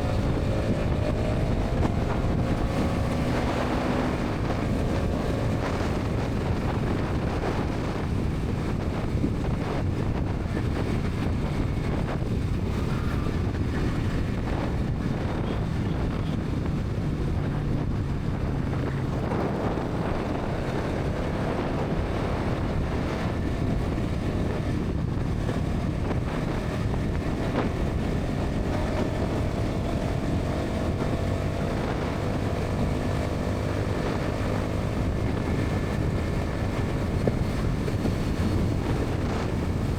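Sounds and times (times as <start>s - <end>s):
motorcycle engine at highway speed: 0.0s - 39.9s
wind noise on microphone: 0.0s - 39.9s.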